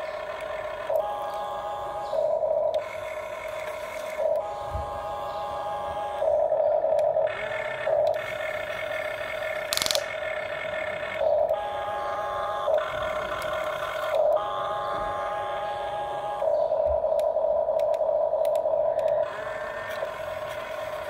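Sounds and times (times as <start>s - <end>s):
toy excavator motors whining: 0.0s - 21.0s.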